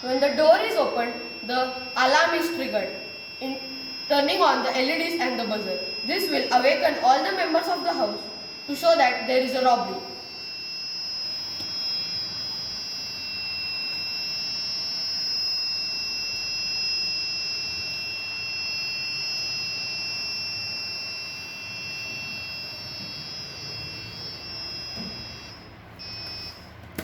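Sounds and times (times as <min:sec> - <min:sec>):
high-pitched buzzer tone: 0:00.0 - 0:27.0.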